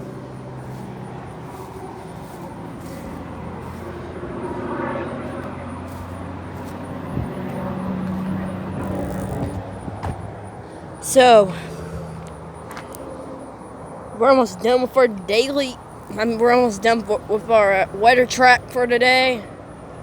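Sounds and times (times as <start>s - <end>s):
airplane passing overhead: 0.0s - 20.0s.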